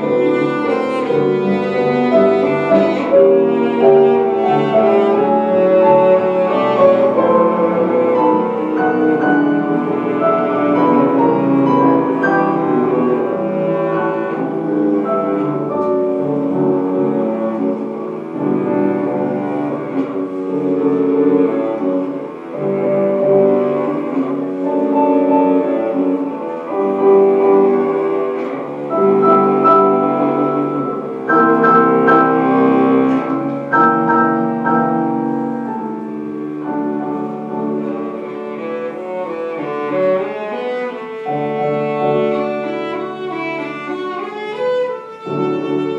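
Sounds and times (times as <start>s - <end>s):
bowed string instrument: 0.0s - 45.9s
piano accompaniment: 0.0s - 45.9s.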